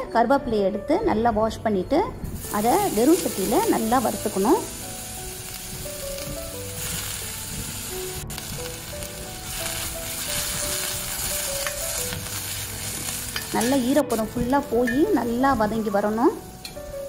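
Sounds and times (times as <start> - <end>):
soft background music: 0.0 - 17.0
leaves sizzling in a pan: 2.4 - 17.0.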